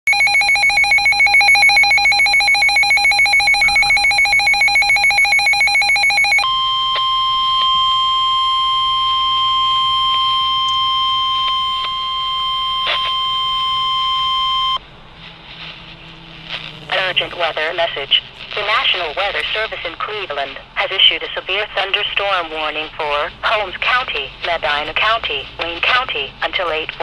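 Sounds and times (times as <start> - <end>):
steady warning tone: 0.1 - 26.8.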